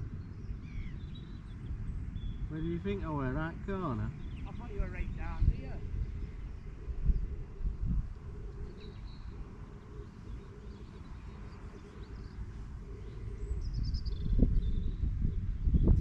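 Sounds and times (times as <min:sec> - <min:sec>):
steady low rumble: 0:00.0 - 0:16.0
faint bird chirps: 0:00.1 - 0:02.8, 0:03.8 - 0:16.0.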